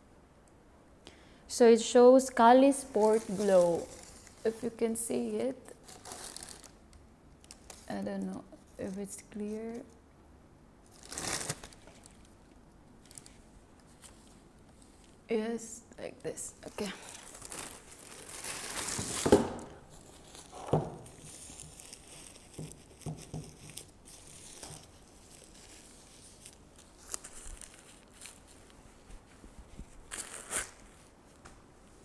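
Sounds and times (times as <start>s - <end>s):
wrapping paper rustling and crumpling: 2.6s - 9.9s, 10.9s - 12.4s, 13.0s - 15.2s, 16.2s - 31.2s.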